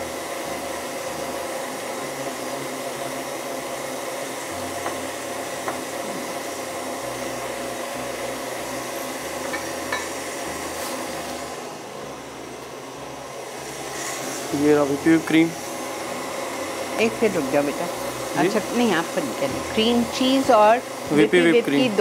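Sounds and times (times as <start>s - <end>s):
electric mixer running: 0.0s - 22.0s.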